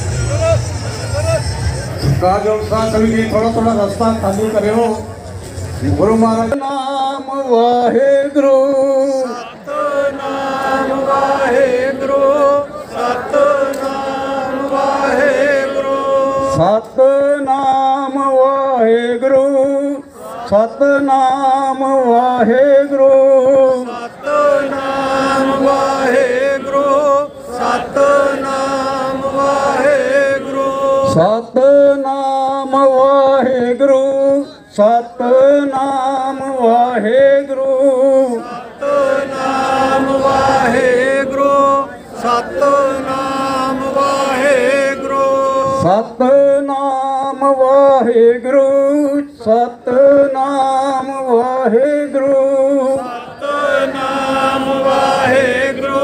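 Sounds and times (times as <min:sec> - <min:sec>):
devotional hymn chanting: 0:05.8 - 0:56.0.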